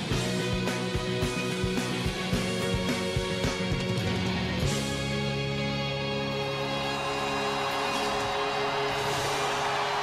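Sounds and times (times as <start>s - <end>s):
music with held chords: 0.0s - 10.0s.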